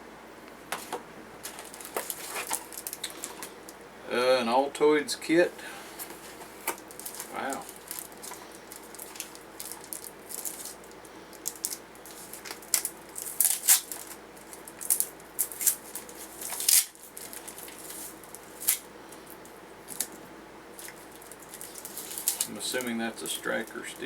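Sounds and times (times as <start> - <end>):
small items rustling and clicking: 0.7 - 3.8, 6.0 - 24.0.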